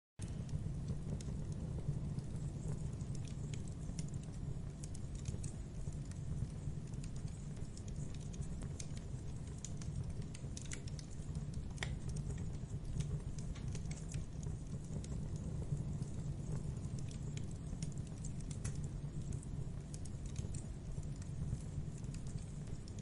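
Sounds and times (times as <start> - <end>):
campfire crackling and popping: 0.2 - 23.0
low fire rumble: 0.2 - 23.0.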